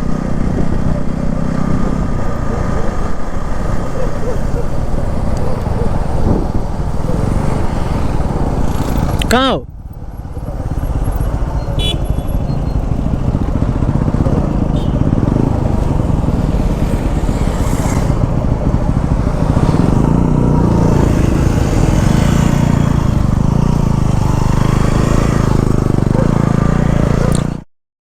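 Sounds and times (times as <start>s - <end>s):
wind rumble on microphone: 0.0s - 27.5s
motorcycle engine running: 0.0s - 27.6s.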